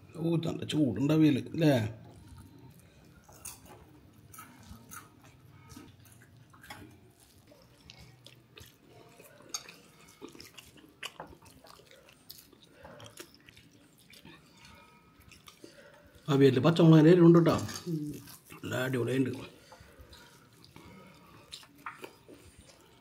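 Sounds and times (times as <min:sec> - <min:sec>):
faint chewing: 0:02.0 - 0:23.0.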